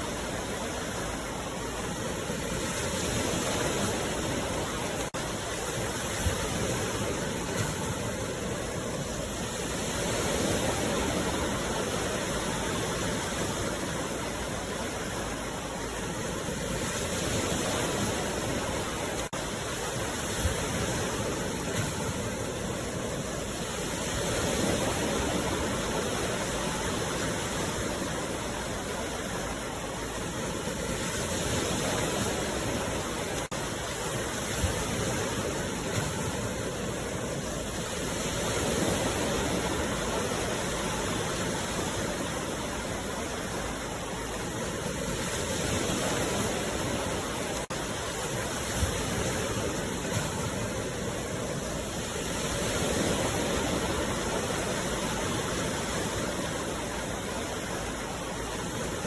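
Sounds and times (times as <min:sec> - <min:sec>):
sea waves washing ashore: 0:00.0 - 0:59.0.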